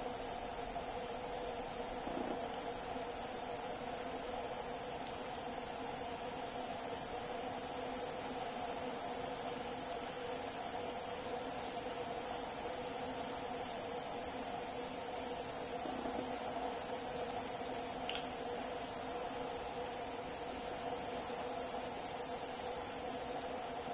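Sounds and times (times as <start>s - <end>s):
insects droning: 0.0s - 23.9s.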